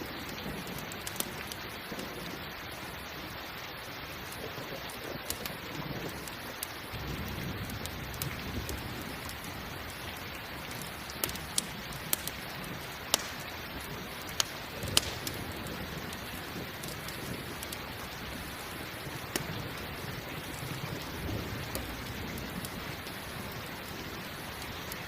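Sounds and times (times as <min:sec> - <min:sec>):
campfire crackling: 0:00.0 - 0:25.0
rain: 0:00.0 - 0:25.0.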